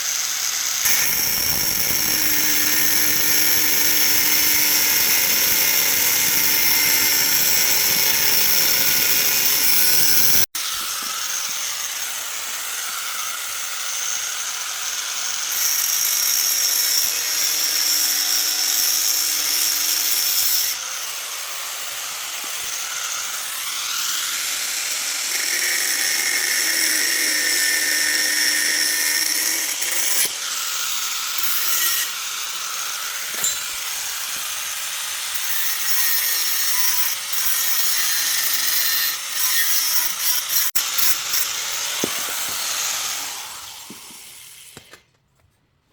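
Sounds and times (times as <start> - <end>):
tool on workpiece noise: 0.0 - 45.1
power tool running: 0.2 - 45.0.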